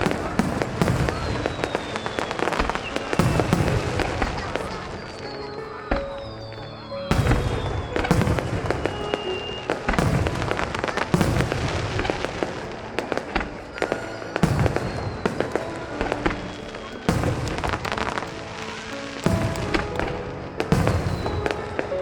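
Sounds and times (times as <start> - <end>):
fireworks bursting with booms: 0.0 - 22.0
fireworks crackling: 0.0 - 22.0
music playing: 0.0 - 22.0.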